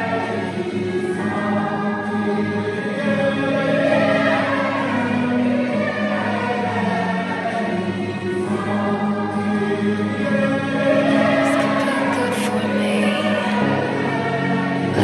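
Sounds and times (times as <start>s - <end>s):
choir-like singing music: 0.0s - 15.0s.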